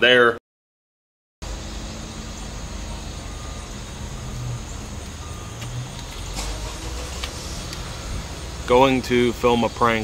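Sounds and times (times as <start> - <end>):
outdoor background noise: 1.4 - 10.0
vehicle engine rumbling: 1.4 - 10.0.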